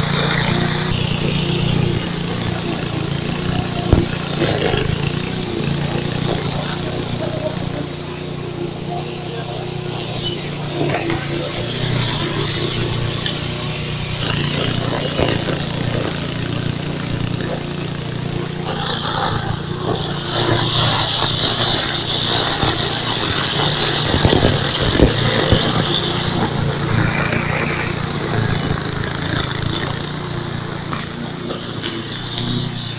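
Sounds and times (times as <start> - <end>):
string trimmer engine running: 0.0 - 32.9.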